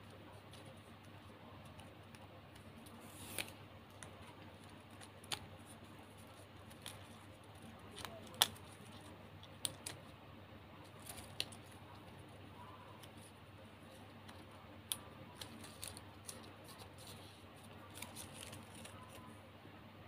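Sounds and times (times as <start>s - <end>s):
plastic ribbon crackling: 0.3s - 10.1s, 10.8s - 19.4s.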